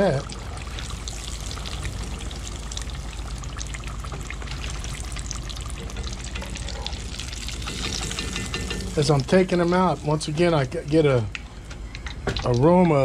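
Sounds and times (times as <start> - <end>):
fish frying in hot oil: 0.0 - 13.0
low steady hum: 0.0 - 13.0.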